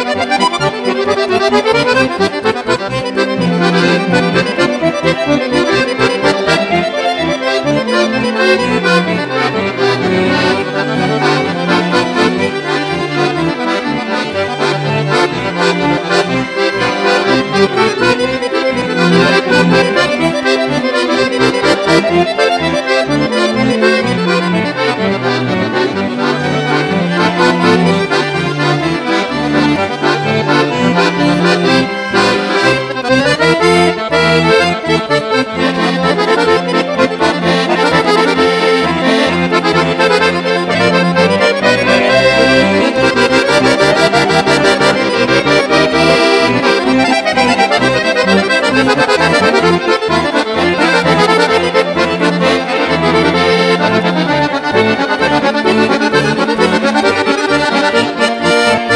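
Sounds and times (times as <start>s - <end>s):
button accordions playing: 0.0s - 58.9s.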